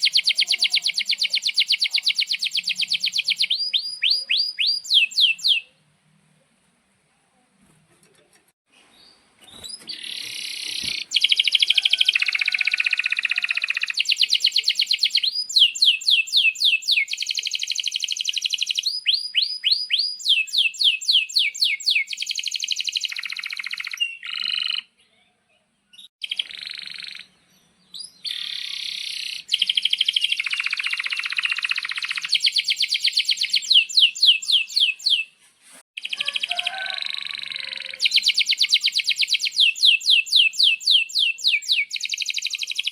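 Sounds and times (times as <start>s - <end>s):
canary singing trills: 0.0s - 5.8s, 9.0s - 35.4s, 36.0s - 42.9s.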